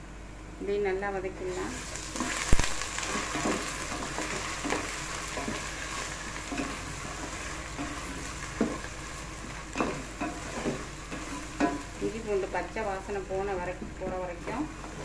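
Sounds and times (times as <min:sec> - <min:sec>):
onions sizzling in hot oil: 0:01.4 - 0:15.0.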